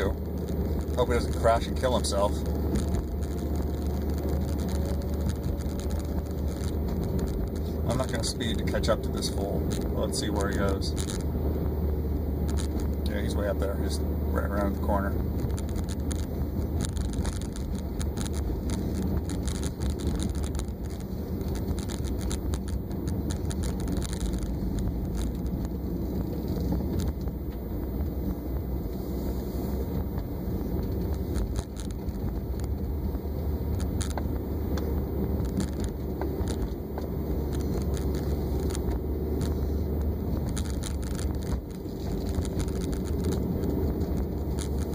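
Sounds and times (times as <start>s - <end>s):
faint clicks and rattles: 0.0s - 11.7s, 12.4s - 44.9s
car interior rumble: 0.0s - 44.9s.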